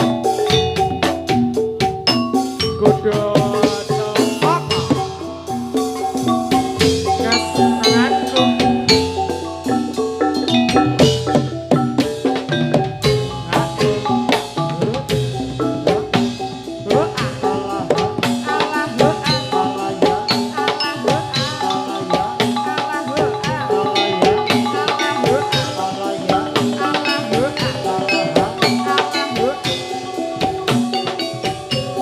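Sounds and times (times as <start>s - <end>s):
steady drumming: 0.0s - 32.0s
struck metallophone notes: 0.0s - 32.0s.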